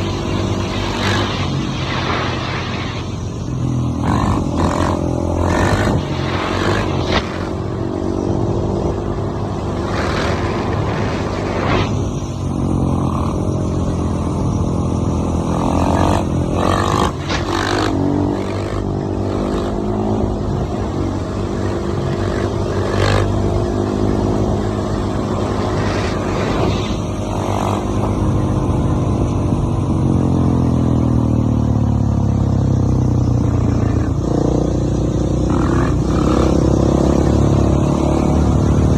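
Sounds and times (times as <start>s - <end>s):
dirt bike engine revving: 0.0s - 31.2s, 33.4s - 38.9s
noisy wind gusts: 0.0s - 38.9s.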